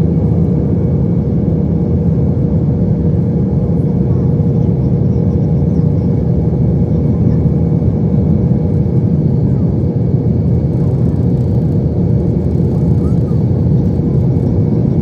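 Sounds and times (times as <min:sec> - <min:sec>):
airplane cabin engine roar: 0:00.0 - 0:15.0
constant hum: 0:00.0 - 0:15.0.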